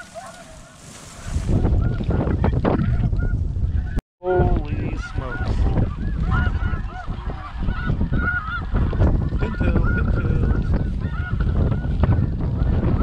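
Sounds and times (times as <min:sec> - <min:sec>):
geese honking: 0:00.0 - 0:04.0, 0:04.7 - 0:13.0
wind rumble on microphone: 0:00.0 - 0:13.0.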